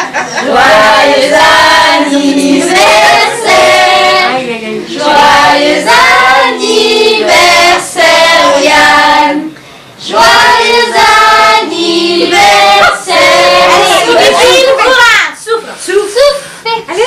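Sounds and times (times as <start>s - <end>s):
group singing birthday song: 0.0s - 15.1s.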